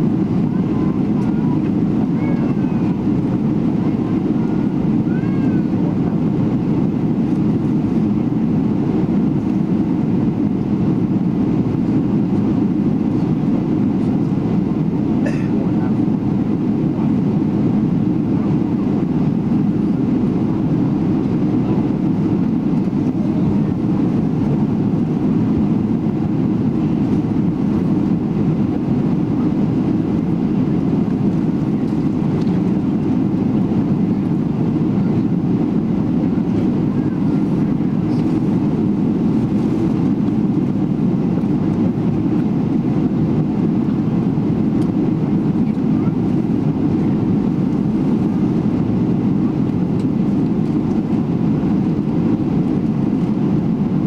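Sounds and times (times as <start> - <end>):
faint passenger voices: 0.0 - 53.6
aircraft cabin rumble: 0.0 - 54.0.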